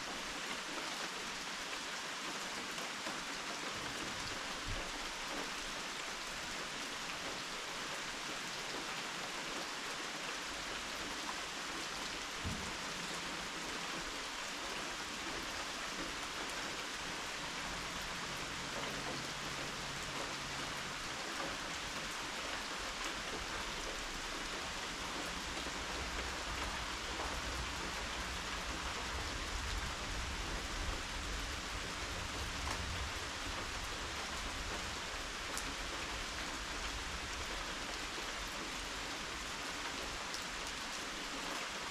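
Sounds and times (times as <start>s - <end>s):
rain pattering on surfaces: 0.0s - 41.9s.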